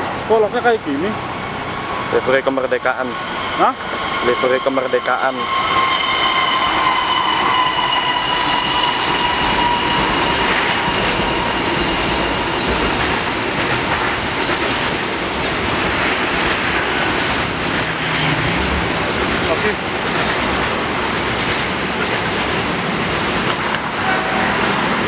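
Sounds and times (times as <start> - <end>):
freight train passing: 0.0 - 25.0.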